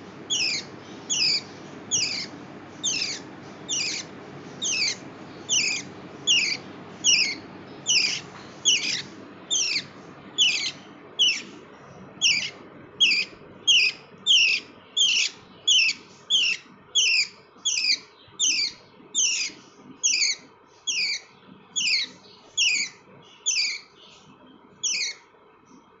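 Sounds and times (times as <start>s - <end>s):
parrot calling: 0.0s - 11.6s, 12.2s - 23.9s, 24.8s - 25.2s.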